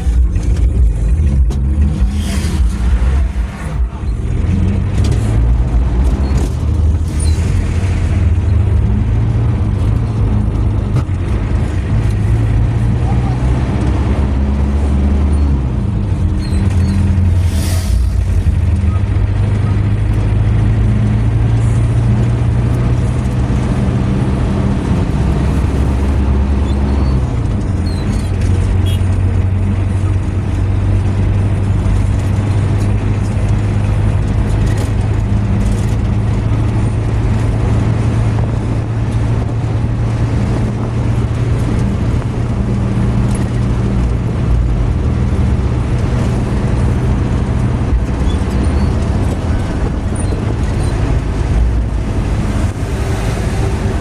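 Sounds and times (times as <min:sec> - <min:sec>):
car engine hum: 0:00.0 - 0:54.0
tyre and road noise: 0:00.0 - 0:54.0.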